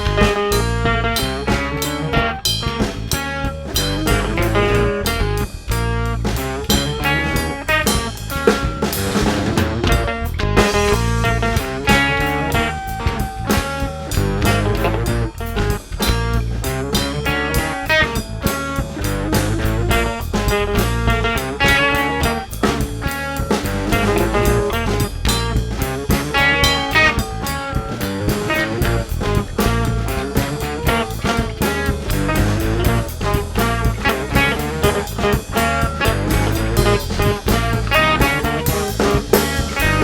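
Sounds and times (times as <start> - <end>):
band playing upbeat instrumental: 0.0 - 40.0
drum kit: 0.0 - 40.0
guitar: 0.0 - 40.0.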